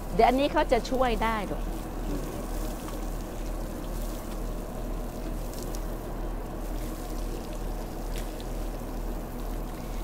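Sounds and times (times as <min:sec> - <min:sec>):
water trickling onto soil: 0:01.7 - 0:10.0.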